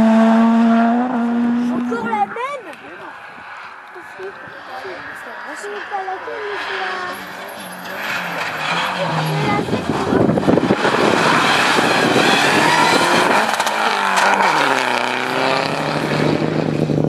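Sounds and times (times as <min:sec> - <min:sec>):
rally car engine revving: 0:00.0 - 0:17.0
tyre and road noise: 0:00.0 - 0:17.0.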